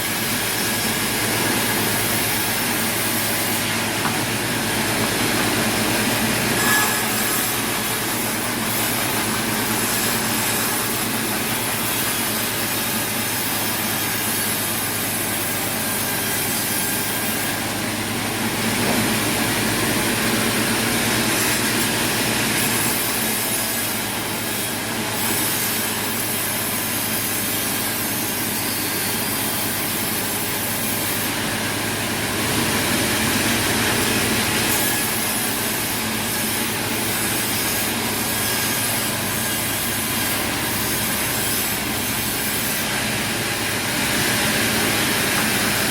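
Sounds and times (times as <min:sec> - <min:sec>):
sawmill saw cutting wood: 0:00.0 - 0:45.9.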